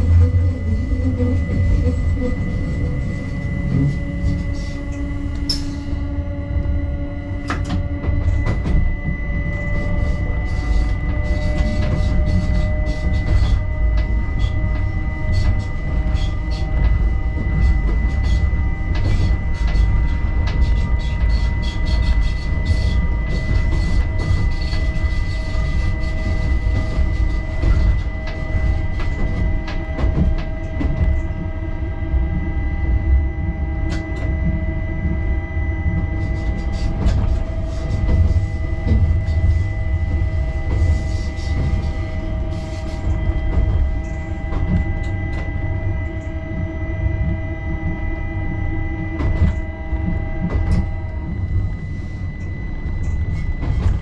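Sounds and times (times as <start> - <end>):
high electric whine: 0.0 - 54.0
train wheels rumbling on rails: 0.0 - 54.0.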